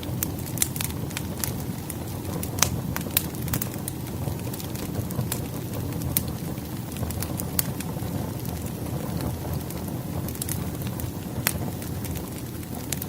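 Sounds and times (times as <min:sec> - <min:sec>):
firewood burning and crackling: 0:00.0 - 0:13.0.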